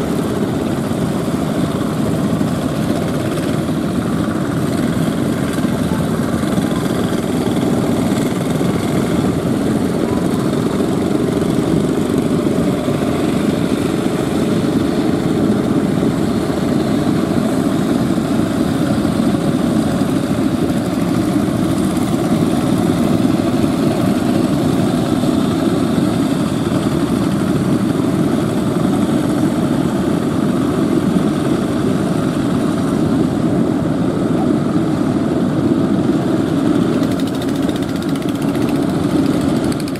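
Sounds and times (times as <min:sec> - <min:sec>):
boat engines droning: 0:00.0 - 0:39.9.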